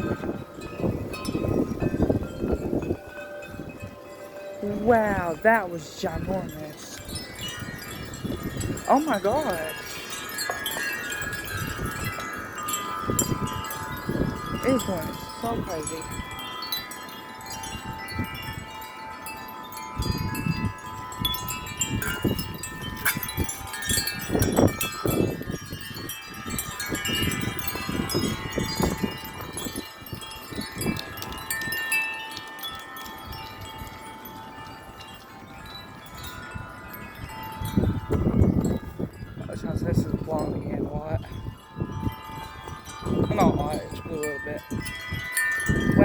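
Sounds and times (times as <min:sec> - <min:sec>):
wind buffeting microphone: 0:00.0 - 0:46.0
wind chimes ringing: 0:00.0 - 0:46.0.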